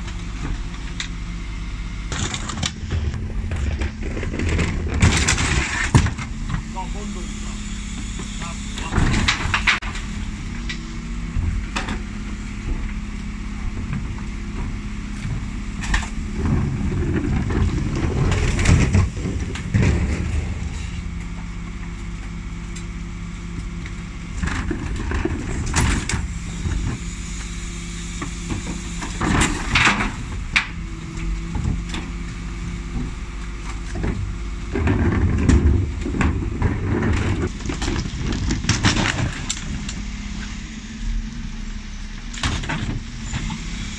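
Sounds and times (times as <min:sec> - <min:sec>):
refuse truck humming: 0:00.0 - 0:43.9
rubbish and bins clattering: 0:02.0 - 0:06.9, 0:08.0 - 0:27.5, 0:28.2 - 0:40.5.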